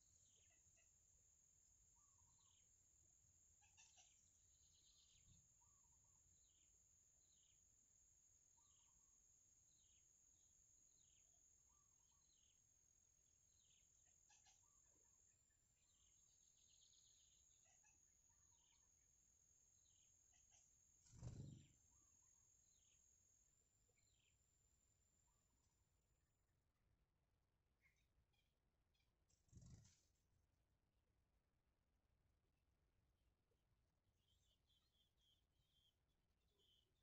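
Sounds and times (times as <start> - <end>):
small birds chirping: 0.0 - 1.2, 1.8 - 10.2, 10.9 - 25.8, 27.6 - 30.3, 34.1 - 37.0.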